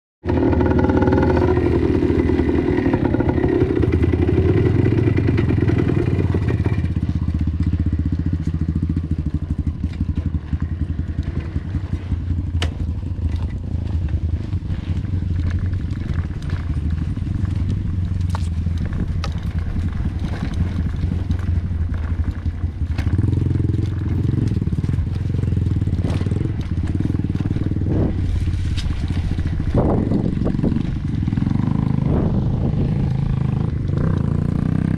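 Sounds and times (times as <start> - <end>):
vehicle engine running: 0.2 - 34.9.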